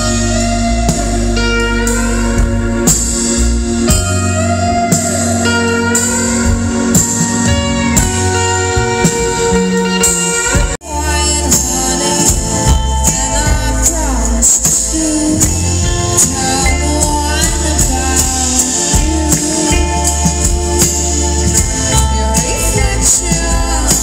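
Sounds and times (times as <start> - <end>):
music with singing: 0.0 - 24.0.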